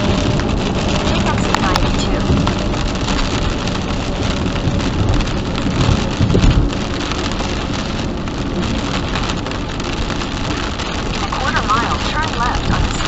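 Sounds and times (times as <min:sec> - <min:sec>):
heavy rain on a vehicle: 0:00.0 - 0:13.0
low rumble: 0:00.0 - 0:13.0.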